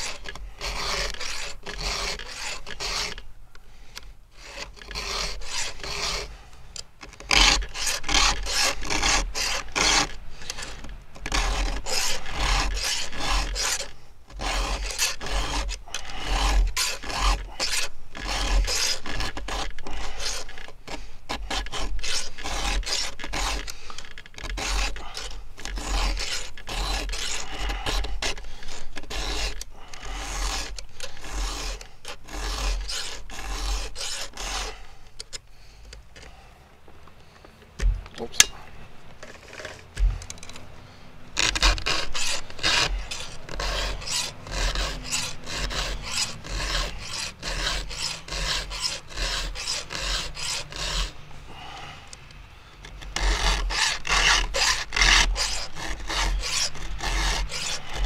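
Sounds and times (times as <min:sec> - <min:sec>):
file rasping on chainsaw chain: 0:00.0 - 0:03.2, 0:04.4 - 0:06.4, 0:07.0 - 0:35.5, 0:37.8 - 0:40.6, 0:41.4 - 0:52.2, 0:52.8 - 0:58.0.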